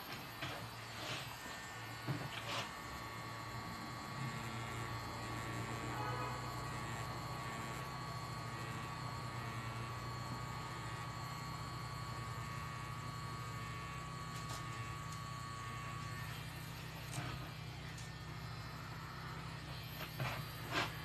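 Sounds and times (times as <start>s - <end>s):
tattoo machine buzzing: 0.0s - 21.0s.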